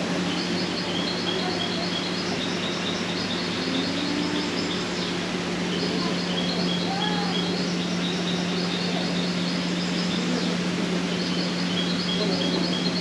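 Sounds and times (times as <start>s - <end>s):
small birds chirping: 0.0s - 13.0s
steady hiss with low hum: 0.0s - 13.0s.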